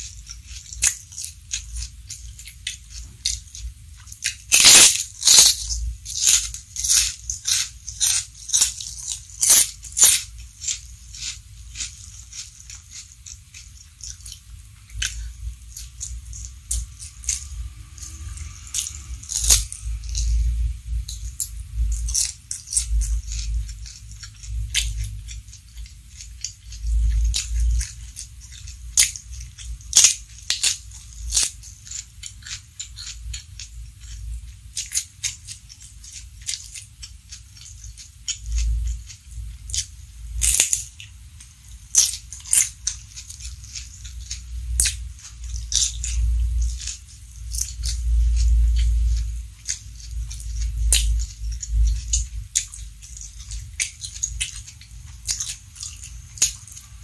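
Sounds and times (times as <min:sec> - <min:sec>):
crunching of puffed cracker: 0:00.0 - 0:57.0
crunchy bites of raw vegetable: 0:00.0 - 0:57.0
soft chewing: 0:00.0 - 0:57.0.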